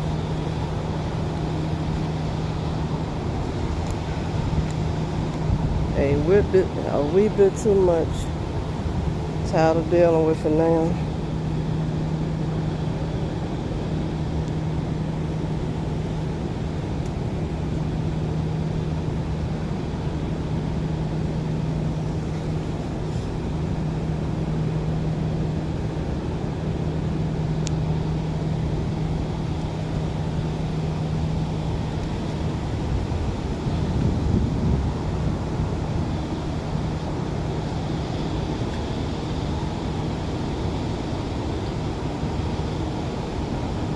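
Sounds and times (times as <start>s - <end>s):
car road and engine noise: 0.0s - 43.9s
constant low hum: 0.0s - 43.9s.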